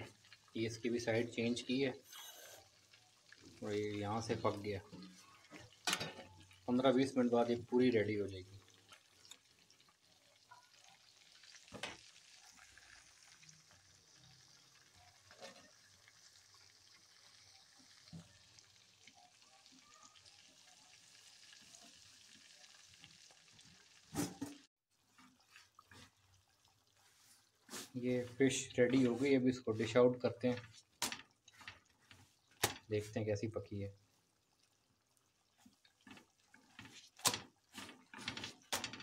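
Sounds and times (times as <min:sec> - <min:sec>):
fish sizzling in oil: 0:00.0 - 0:39.0.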